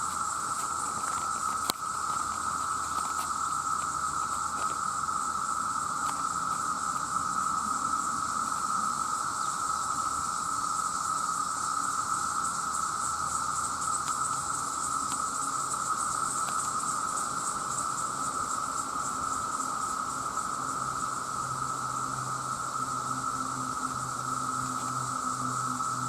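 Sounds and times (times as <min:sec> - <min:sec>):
cicadas calling: 0:00.0 - 0:26.0.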